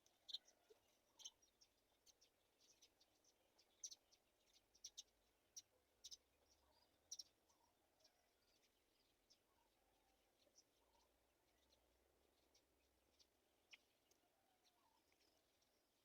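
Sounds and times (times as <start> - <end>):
faint high-pitched chirps and ticks: 0.0 - 16.0.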